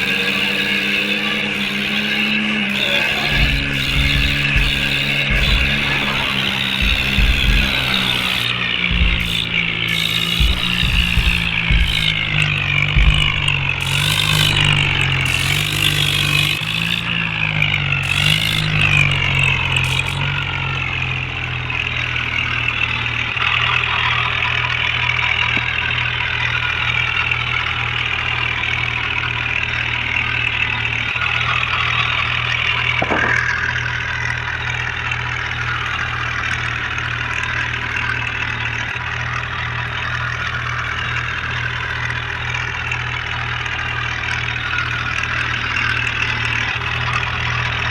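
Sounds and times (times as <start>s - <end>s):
tractor engine idling: 0.0s - 47.9s.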